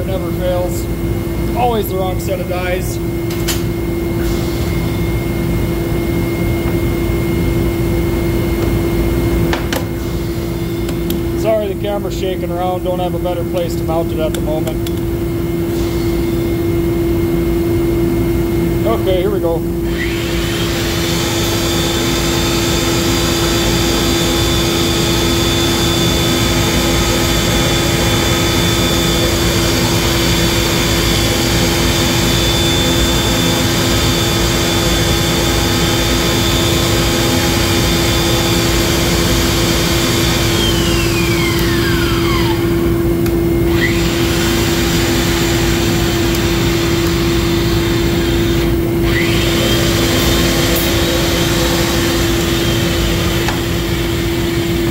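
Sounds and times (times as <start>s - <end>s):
pipe threading machine humming: 0.0s - 54.9s.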